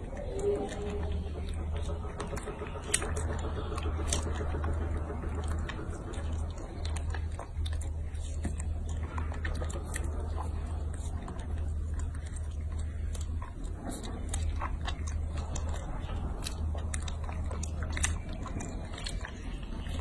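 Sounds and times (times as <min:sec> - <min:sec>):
low hum: 0:00.0 - 0:20.0
monkey chewing wetly: 0:00.0 - 0:20.0.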